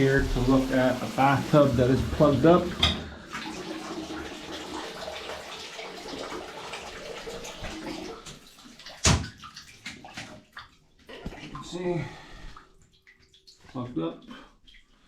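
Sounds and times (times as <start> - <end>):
tap water running into bathtub: 0.0 - 15.0.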